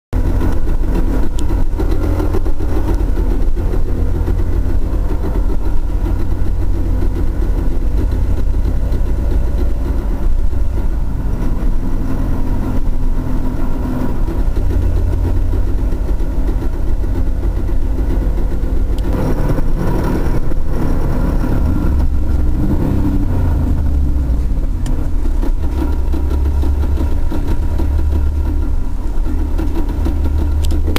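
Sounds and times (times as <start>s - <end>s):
car engine running: 0.1s - 30.9s
transmission mechanical noises: 0.1s - 30.9s.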